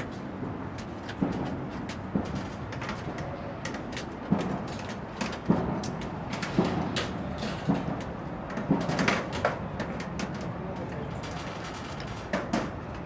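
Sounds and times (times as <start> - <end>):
steady background noise: 0.0 - 13.0
knocks and clanks on sheet metal: 0.4 - 10.5, 11.3 - 12.8.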